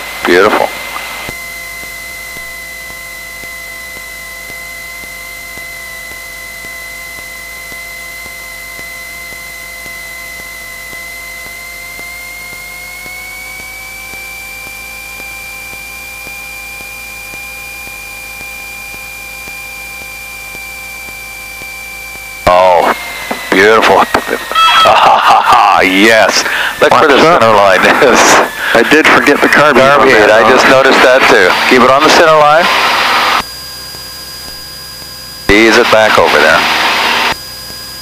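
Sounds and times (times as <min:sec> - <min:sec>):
aircraft engine and propeller whine: 0:00.0 - 0:38.0
low hum: 0:00.0 - 0:38.0.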